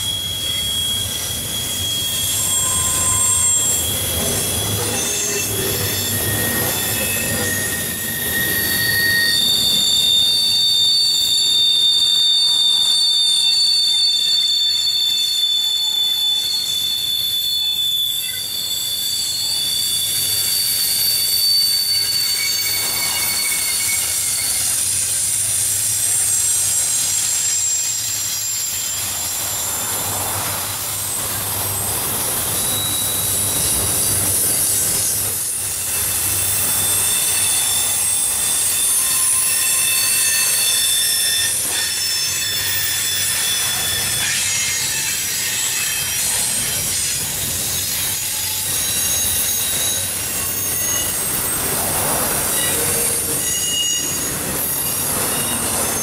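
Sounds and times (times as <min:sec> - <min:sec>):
train rumbling: 0:00.0 - 0:56.0
train wheels squealing: 0:00.0 - 0:56.0.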